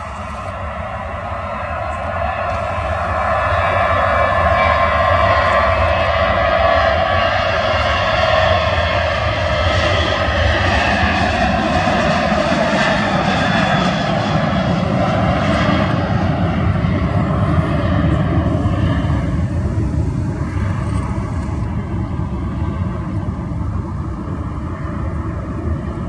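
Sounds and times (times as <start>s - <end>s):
jet engines roaring at takeoff: 0.0s - 26.0s.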